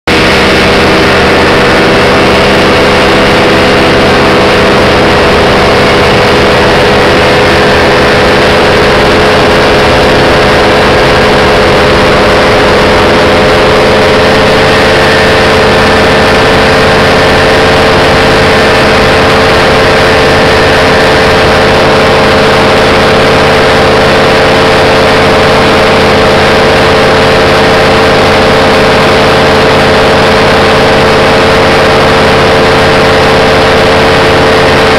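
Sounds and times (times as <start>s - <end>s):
small aircraft engine running: 0.0s - 34.9s.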